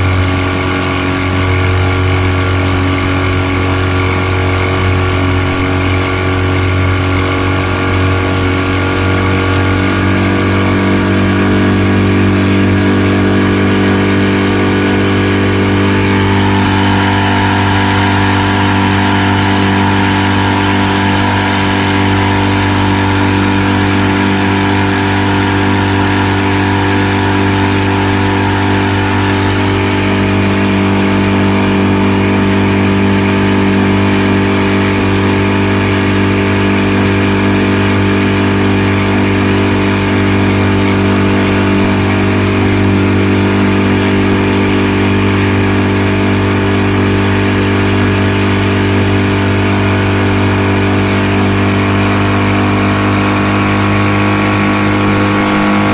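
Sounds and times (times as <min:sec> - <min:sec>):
outboard engine running: 0:00.0 - 0:55.9.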